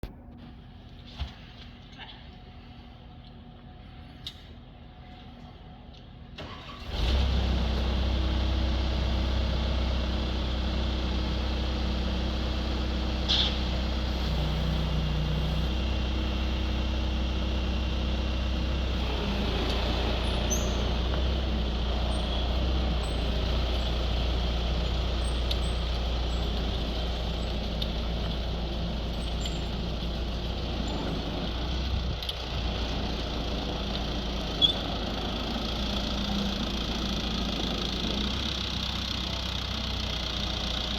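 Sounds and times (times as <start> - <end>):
loader engine low drone: 2.2 - 40.9.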